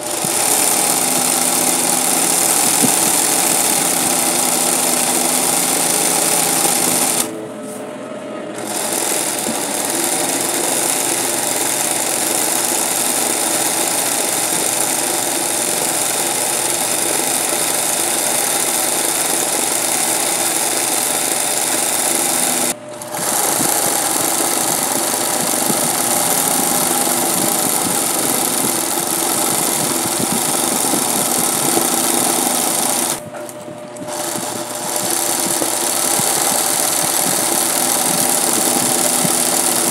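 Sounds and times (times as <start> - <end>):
sewing machine running: 0.0 - 7.4, 8.6 - 39.9.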